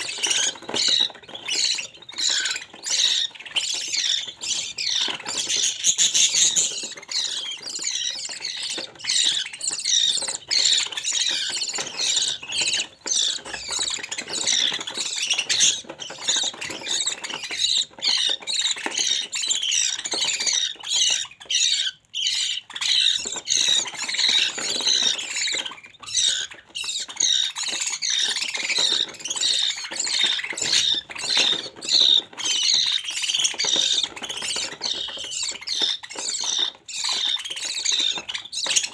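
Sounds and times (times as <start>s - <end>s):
budgerigars squawking and chattering: 0.0s - 38.9s.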